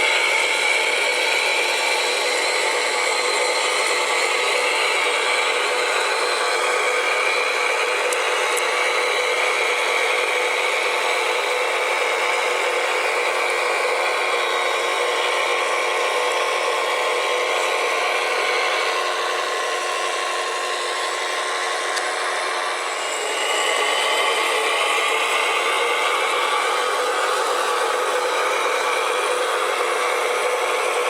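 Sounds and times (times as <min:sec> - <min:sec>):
small electric motors whining: 0:00.0 - 0:31.0.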